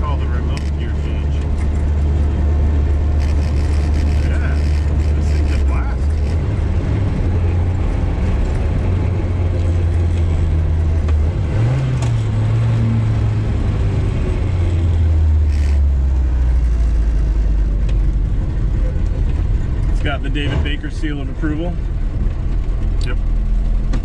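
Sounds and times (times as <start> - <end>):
car engine running: 0.0 - 24.0
road noise: 0.0 - 24.0.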